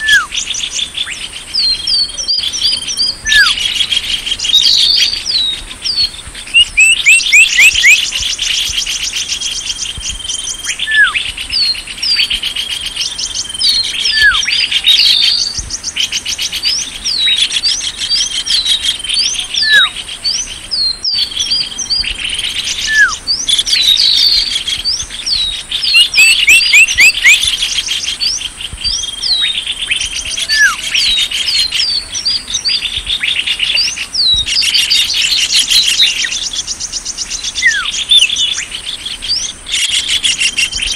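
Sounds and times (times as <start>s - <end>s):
recorded bird chirps and trills: 0.0s - 40.9s.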